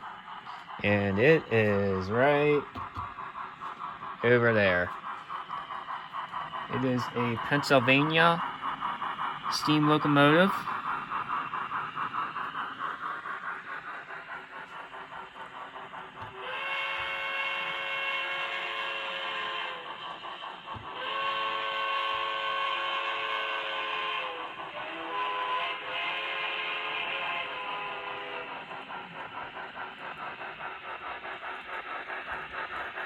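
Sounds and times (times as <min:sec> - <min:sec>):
steam locomotive exhaust chuffing: 0:00.0 - 0:33.0.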